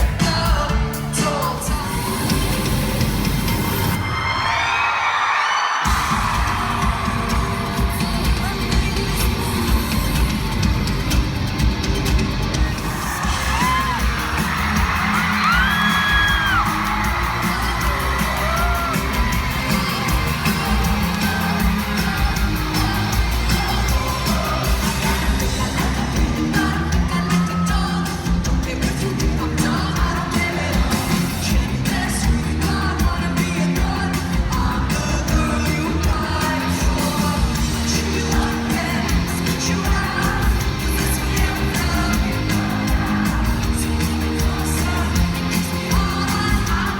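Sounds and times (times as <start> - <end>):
fans screaming and whooping: 0.0 - 46.9
live pop concert music: 0.0 - 46.9
heavy bass beat: 5.9 - 46.9.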